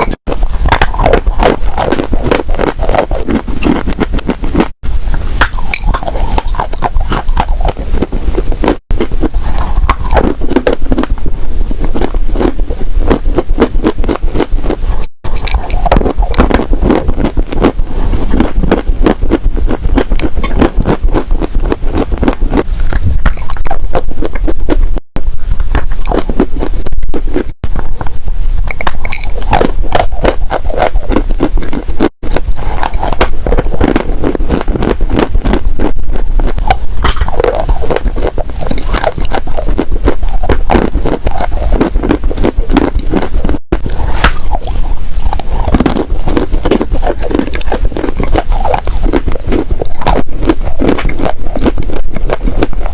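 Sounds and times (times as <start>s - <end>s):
crunchy chewing: 0.0s - 4.8s, 5.4s - 52.9s.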